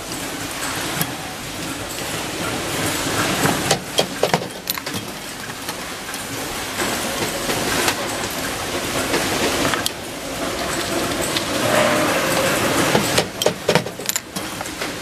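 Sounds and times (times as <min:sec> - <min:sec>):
workshop machinery noise: 0:00.0 - 0:15.0.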